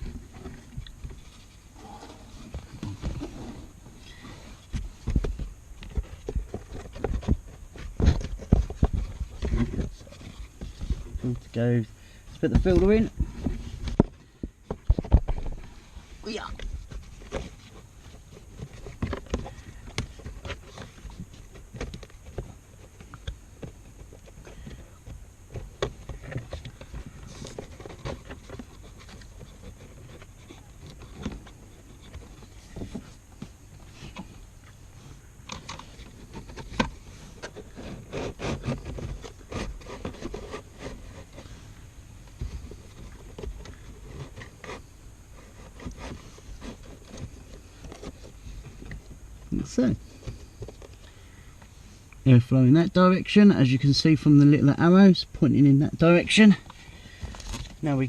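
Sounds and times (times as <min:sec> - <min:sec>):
plastic scraping and rubbing: 0:00.0 - 0:51.5, 0:56.0 - 0:58.0.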